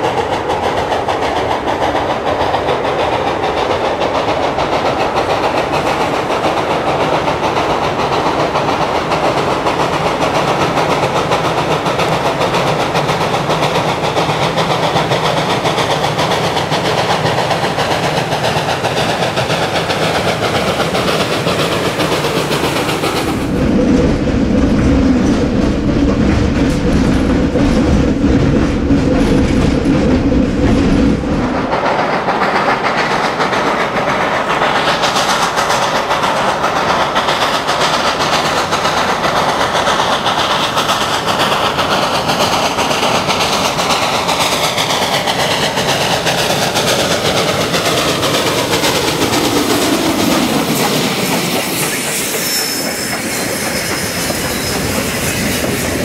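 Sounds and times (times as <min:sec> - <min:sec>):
freight cars clattering on rails: 0:00.0 - 0:56.0
steam locomotive working: 0:00.0 - 0:56.0.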